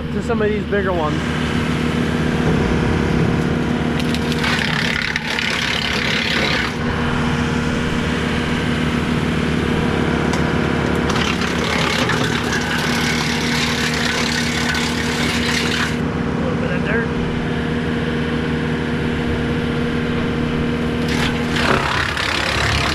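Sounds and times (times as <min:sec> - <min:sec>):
tractor engine running: 0:00.0 - 0:22.9
wood chipper crackling branches: 0:00.0 - 0:22.9.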